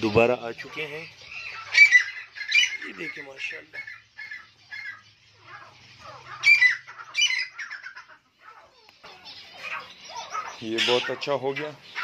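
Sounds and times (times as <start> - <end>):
caged birds squawking: 0.0 - 12.0.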